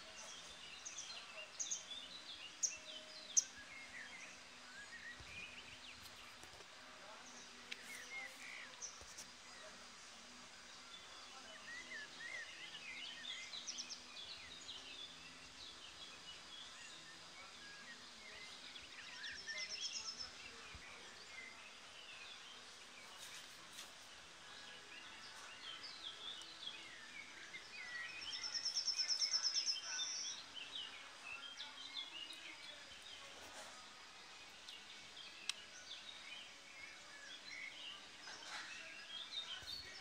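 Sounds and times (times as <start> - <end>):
songbirds chirping and singing: 0.0 - 40.0.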